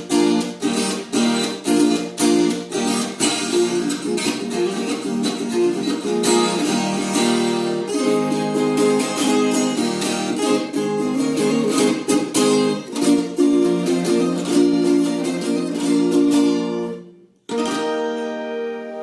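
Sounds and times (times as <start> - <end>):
guitar strummed and plucked: 0.0 - 19.0.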